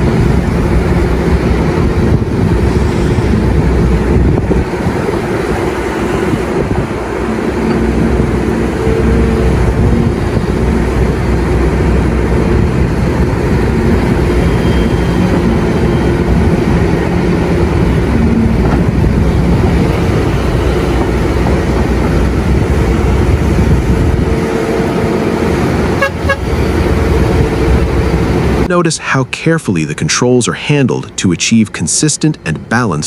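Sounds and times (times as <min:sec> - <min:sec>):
excavator diesel engine: 0:00.0 - 0:33.0.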